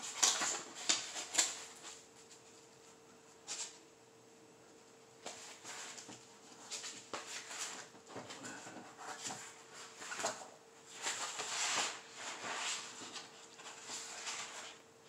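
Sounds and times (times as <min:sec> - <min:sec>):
paper sheets rustling: 0:00.0 - 0:02.5, 0:05.2 - 0:14.8.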